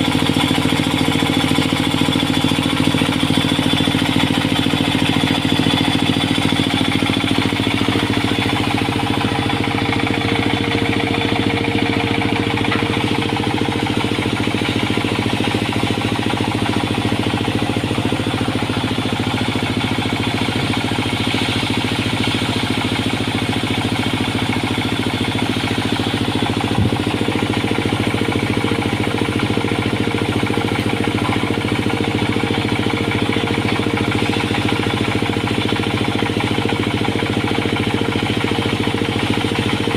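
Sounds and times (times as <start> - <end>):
sawmill engine pulsing: 0.0 - 39.9
steady machinery hum: 0.0 - 39.9.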